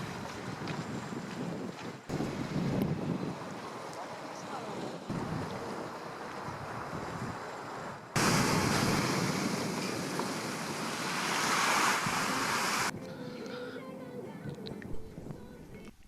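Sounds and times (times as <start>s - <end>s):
surf: 0.0s - 12.9s
wind: 0.0s - 16.0s.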